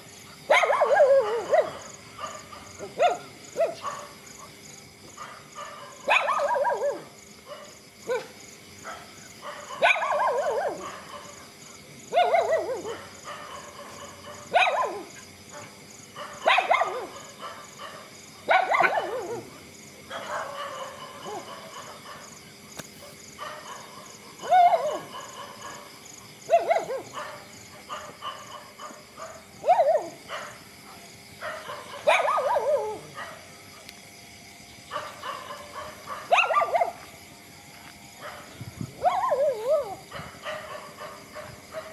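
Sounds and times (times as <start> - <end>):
dog barking: 0.4 - 22.4, 23.0 - 33.9, 34.9 - 37.1, 38.2 - 41.9.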